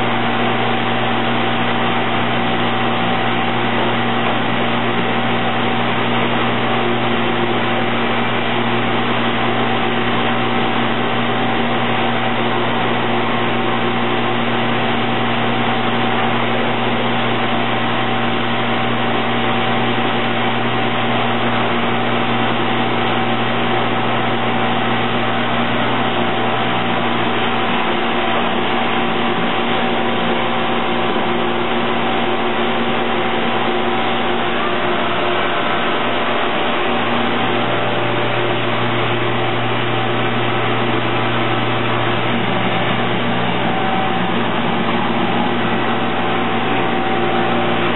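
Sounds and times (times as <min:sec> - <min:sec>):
machine hum and hiss: 0:00.0 - 0:47.9.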